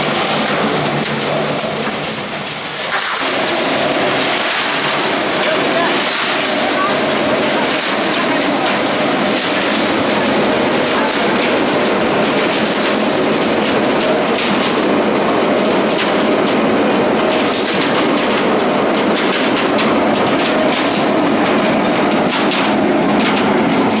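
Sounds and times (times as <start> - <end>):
concrete batching plant running: 0.0 - 24.0.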